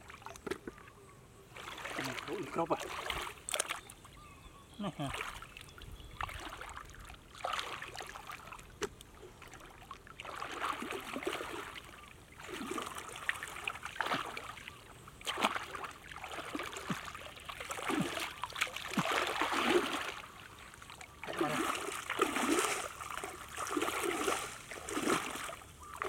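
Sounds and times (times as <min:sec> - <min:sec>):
muddy water sloshing: 0:00.0 - 0:26.0.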